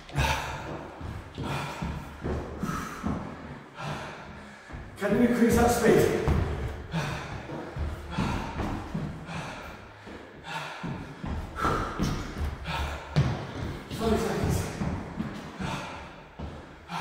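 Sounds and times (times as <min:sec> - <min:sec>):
heavy breathing: 0:00.0 - 0:17.0
trainers thudding on wooden floor: 0:00.0 - 0:17.0.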